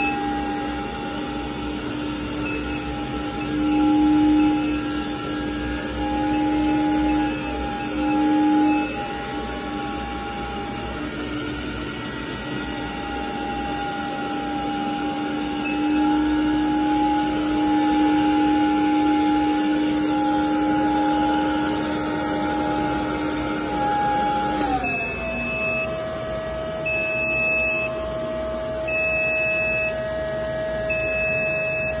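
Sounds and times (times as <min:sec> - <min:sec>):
suction fan whining: 0:00.0 - 0:32.0.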